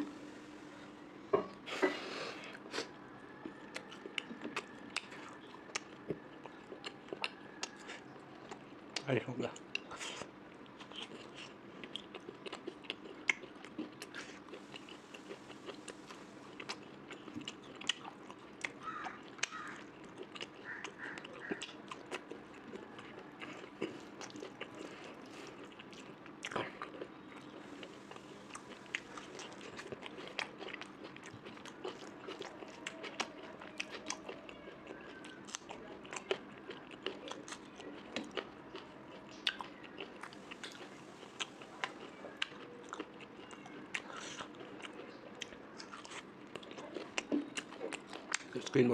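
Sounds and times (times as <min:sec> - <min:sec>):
person chewing food: 0:01.4 - 0:48.8.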